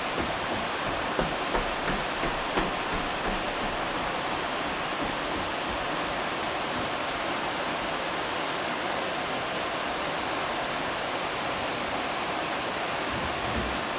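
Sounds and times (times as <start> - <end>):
stream rushing over rocks: 0.0 - 13.9.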